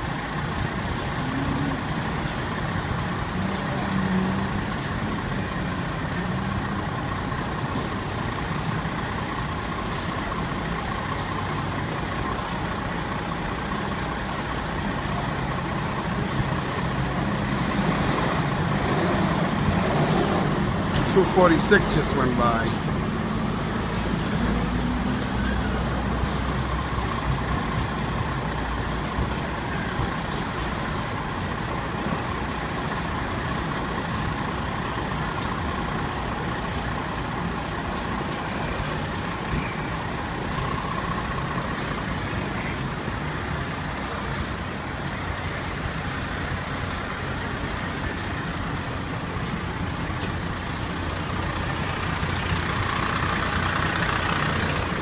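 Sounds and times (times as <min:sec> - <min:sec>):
diesel engine idling: 0:00.0 - 0:55.0
street traffic noise: 0:00.0 - 0:55.0.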